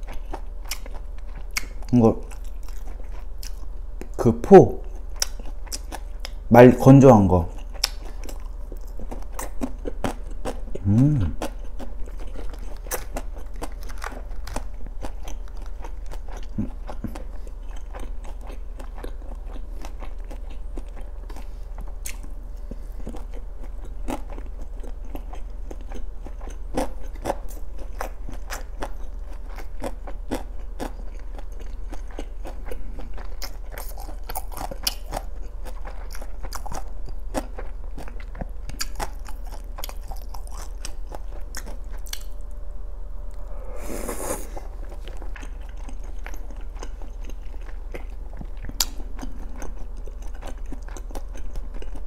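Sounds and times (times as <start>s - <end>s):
person chewing food: 0.0s - 4.2s, 4.8s - 6.4s, 7.5s - 42.6s, 43.2s - 52.0s
low steady hum: 0.0s - 52.0s.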